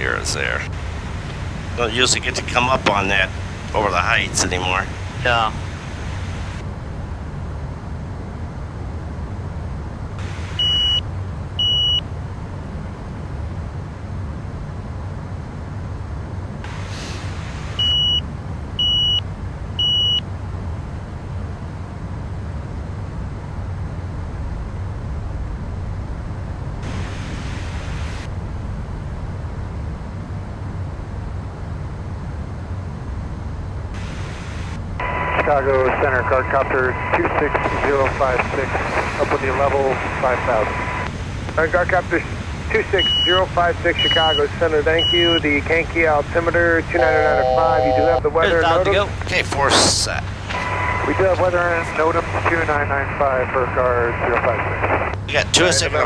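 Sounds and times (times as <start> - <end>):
jet cockpit rumble: 0.0 - 56.0.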